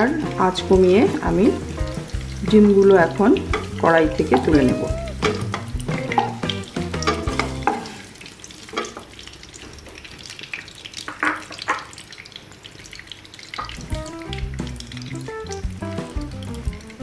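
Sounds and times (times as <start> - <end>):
hot oil sizzling and crackling: 0.0 - 17.0.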